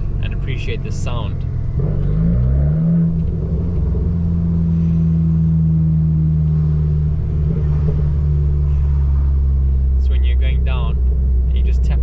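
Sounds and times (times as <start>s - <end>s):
car exhaust droning: 0.0s - 12.0s.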